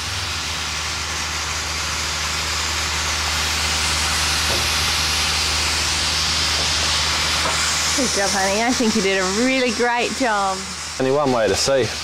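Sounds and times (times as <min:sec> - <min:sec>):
steady hissing noise: 0:00.0 - 0:12.0.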